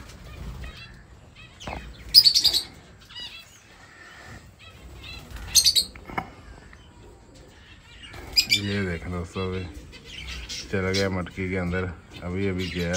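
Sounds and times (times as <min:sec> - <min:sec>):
lovebirds chirping: 0:00.0 - 0:12.9.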